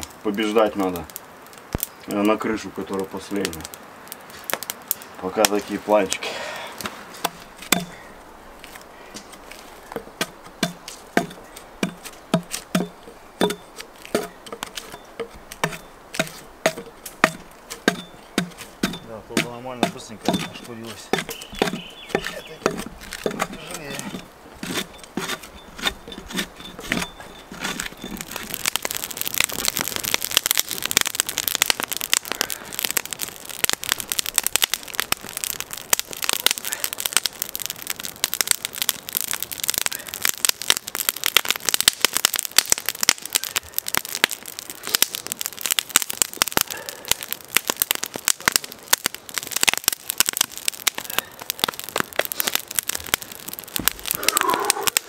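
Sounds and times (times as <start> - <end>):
campfire crackling and snapping: 0.0 - 55.0.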